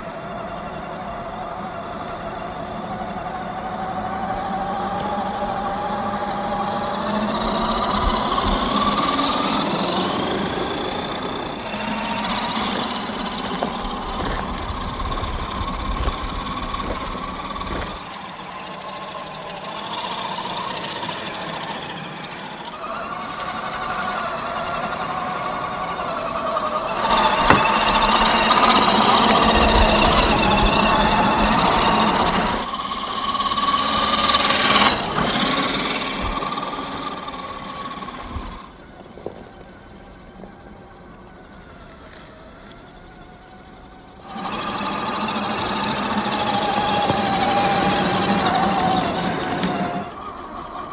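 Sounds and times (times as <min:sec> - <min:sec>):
electric motor and gears whining: 0:00.0 - 0:50.9.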